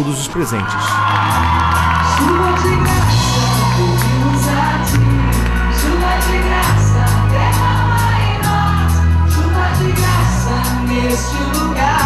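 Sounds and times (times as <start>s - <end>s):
held bass notes: 1.2s - 12.0s.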